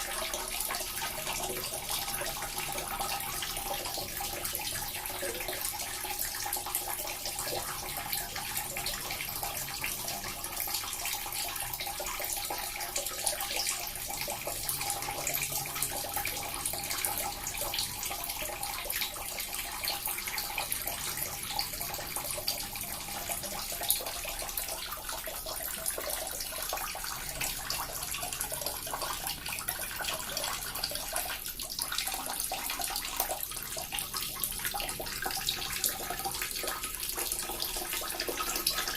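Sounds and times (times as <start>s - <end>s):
fountain water trickling and splashing: 0.0s - 38.9s.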